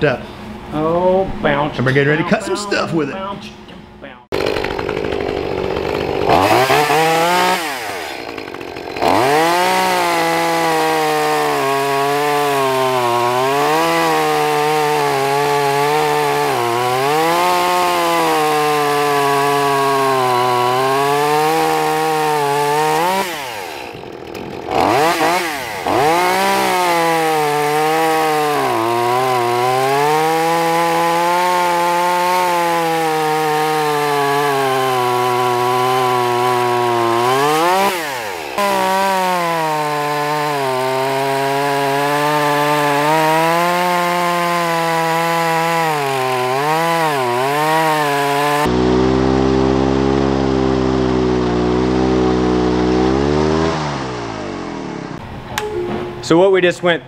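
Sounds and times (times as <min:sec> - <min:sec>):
chainsaw revving and cutting logs: 0:04.3 - 0:55.3.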